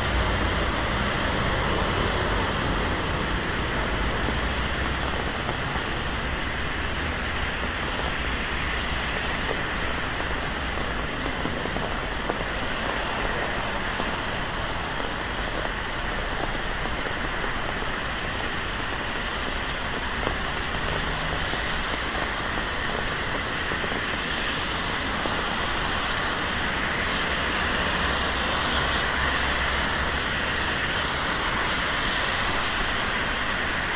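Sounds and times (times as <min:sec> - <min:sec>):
steady rain falling: 0:00.0 - 0:33.9
traffic on wet road: 0:00.0 - 0:33.9.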